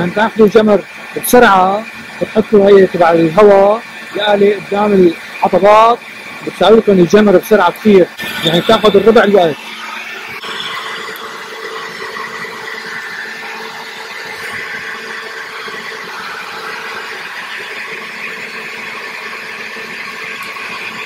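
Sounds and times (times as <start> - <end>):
leaf blower whining: 0.0 - 21.0.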